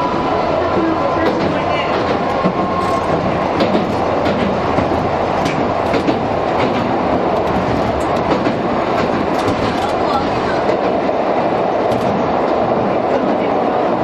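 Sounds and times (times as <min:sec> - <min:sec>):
tram motor rumble: 0:00.0 - 0:14.0
wheels clicking on rails: 0:00.6 - 0:14.0.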